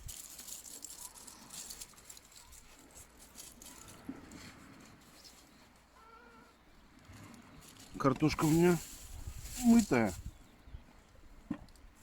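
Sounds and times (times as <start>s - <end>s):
faint rustling and handling: 0.0s - 12.0s.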